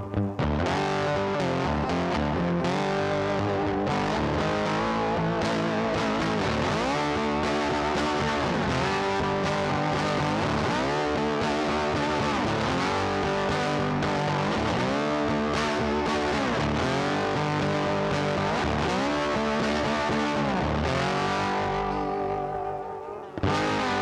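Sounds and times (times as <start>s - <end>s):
distorted electric guitar music: 0.0s - 24.0s.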